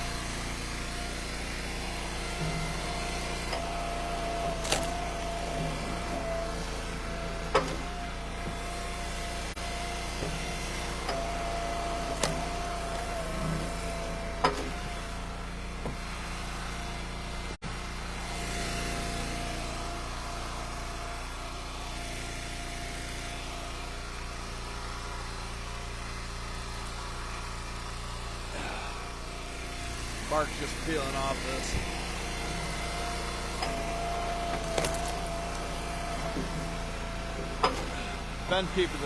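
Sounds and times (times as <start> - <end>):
hydraulic splitter whine: 0.0 - 39.0
wood splitter engine running: 0.0 - 39.0.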